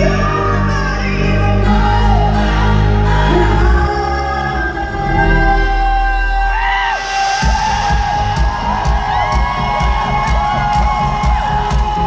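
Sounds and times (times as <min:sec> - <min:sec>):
live pop band playing: 0:00.0 - 0:12.0.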